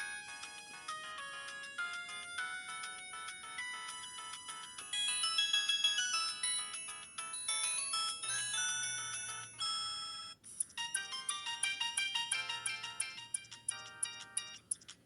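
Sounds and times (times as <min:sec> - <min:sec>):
mobile phone polyphonic ringtone: 0:00.0 - 0:14.8.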